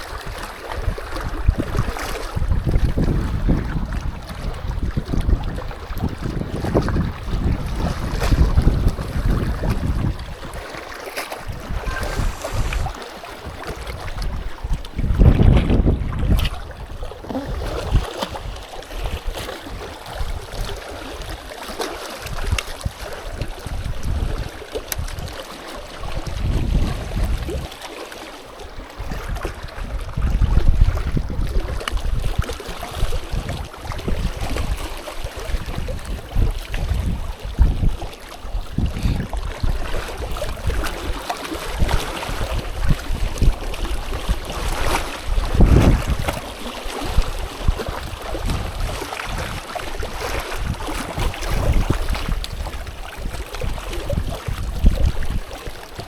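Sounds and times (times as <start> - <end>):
strong wind buffeting microphone: 0.0 - 21.5, 22.2 - 25.4, 26.0 - 27.8, 28.8 - 56.0.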